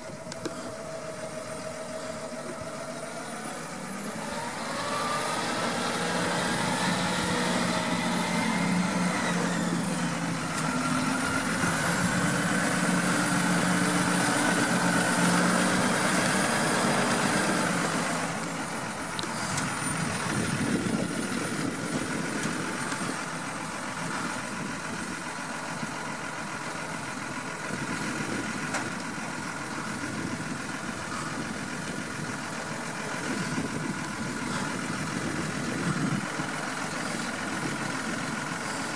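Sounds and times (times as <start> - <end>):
steady mechanical whine: 0.0 - 38.9
tractor diesel engine under load: 0.0 - 38.9.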